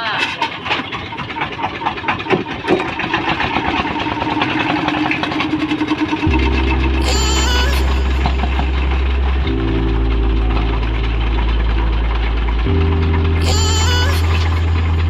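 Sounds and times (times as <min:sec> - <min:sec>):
engine running with low hum: 0:00.7 - 0:15.0.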